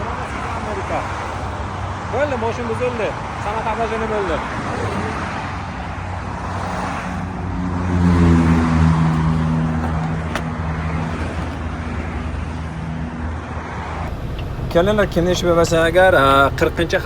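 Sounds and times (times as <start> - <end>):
traffic noise: 0.0 - 17.0
vehicle engine humming: 0.0 - 17.0.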